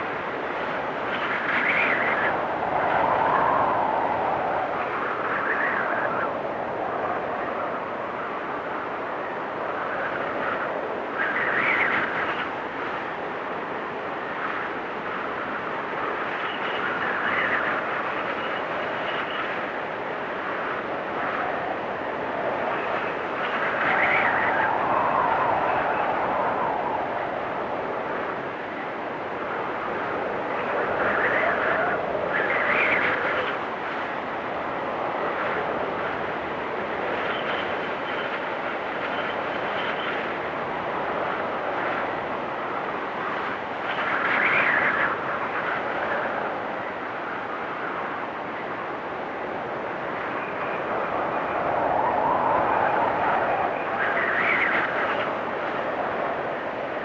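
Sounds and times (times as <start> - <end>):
blizzard wind blowing: 0.0 - 57.0.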